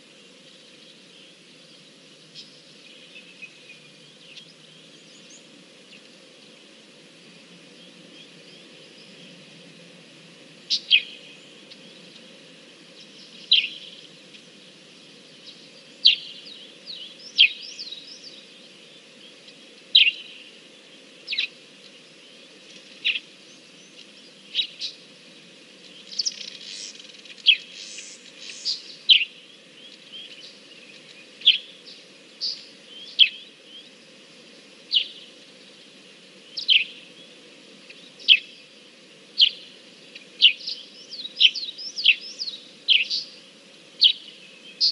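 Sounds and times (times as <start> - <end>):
songbirds chirping: 0.0 - 44.9.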